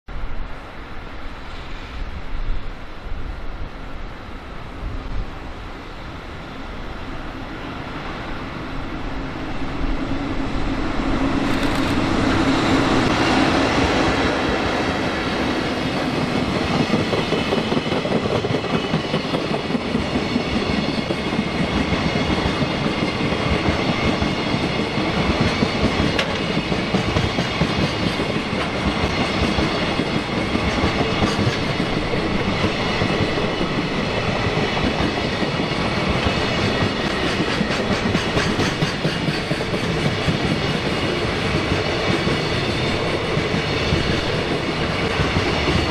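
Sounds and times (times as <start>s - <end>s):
electric locomotive passing: 0.1s - 45.9s.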